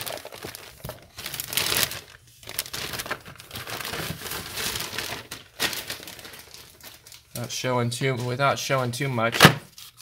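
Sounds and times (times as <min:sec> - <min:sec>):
plastic bag rustling: 0:00.0 - 0:08.4.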